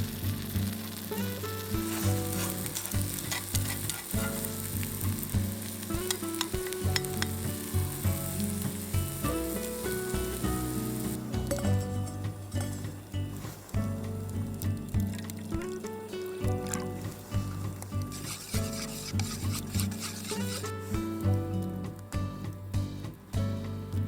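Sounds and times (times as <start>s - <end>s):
food sizzling in a pan: 0.0s - 22.0s
background music: 0.0s - 24.0s.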